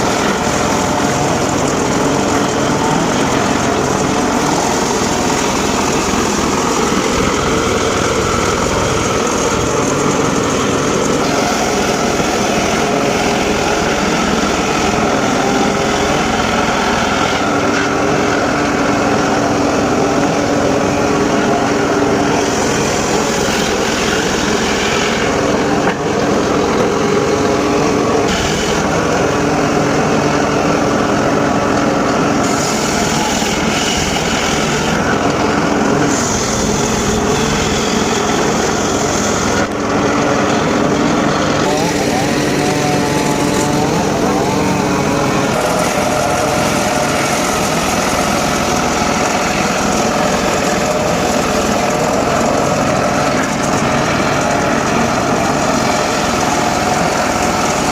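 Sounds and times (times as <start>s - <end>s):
circular saw cutting wood: 0.0s - 57.9s.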